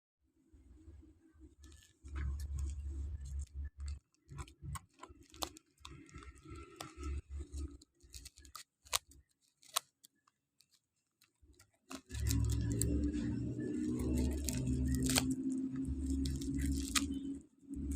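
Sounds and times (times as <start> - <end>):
packaging crinkling and rustling: 1.6 - 17.9.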